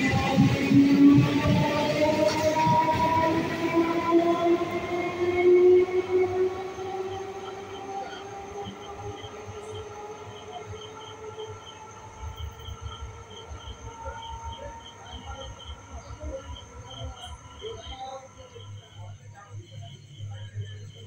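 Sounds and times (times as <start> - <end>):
crickets chirping: 0.0 - 21.0
train rumble and whine: 0.0 - 21.0.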